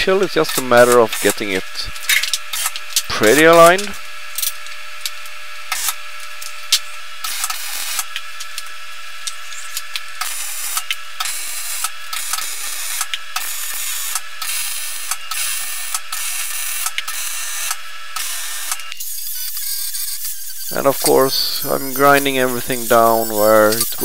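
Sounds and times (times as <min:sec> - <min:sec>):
welder arc crackling and hissing: 0:00.0 - 0:24.0.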